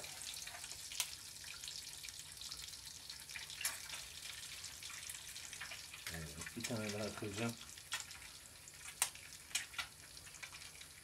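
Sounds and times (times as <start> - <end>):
eggs sizzling in a pan: 0.0 - 11.0.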